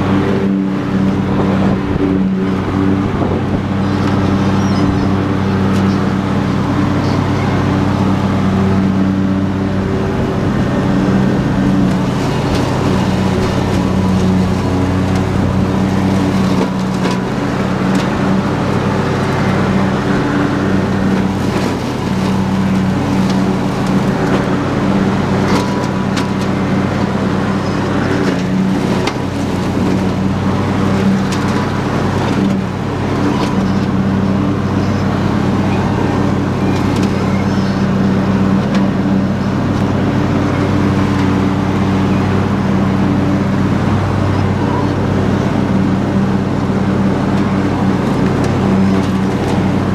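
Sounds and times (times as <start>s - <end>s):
lawn tractor engine running: 0.0s - 49.9s.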